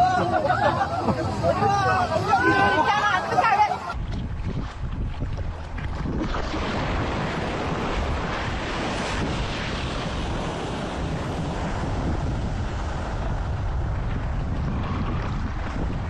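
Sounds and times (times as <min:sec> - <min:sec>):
floodwater rushing: 0:00.0 - 0:16.0
wind buffeting microphone: 0:00.0 - 0:16.0.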